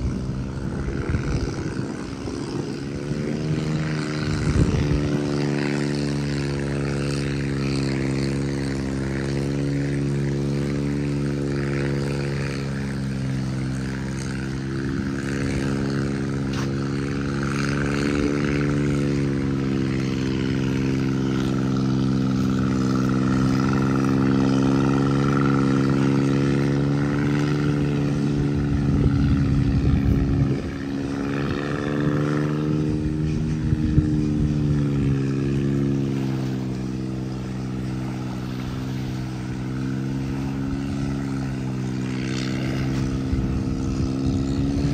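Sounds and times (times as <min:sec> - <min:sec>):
motor engine humming: 0:00.0 - 0:44.9.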